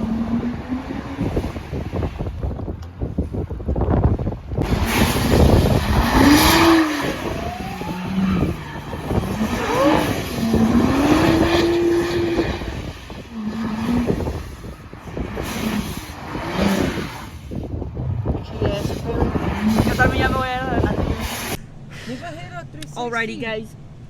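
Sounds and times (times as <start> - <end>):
car engine revving: 0.0 - 24.0
spinning tyres hissing: 0.0 - 24.0.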